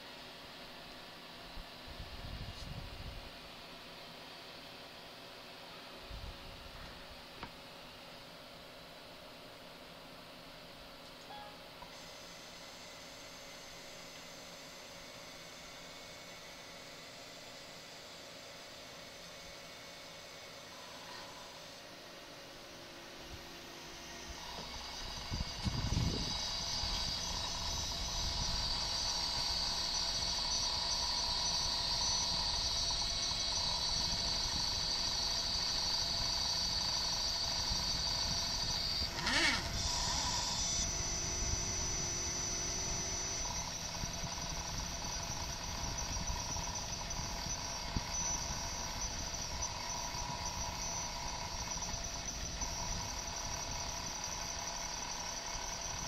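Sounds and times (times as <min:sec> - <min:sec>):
stepper motors whining: 0:11.1 - 0:56.0.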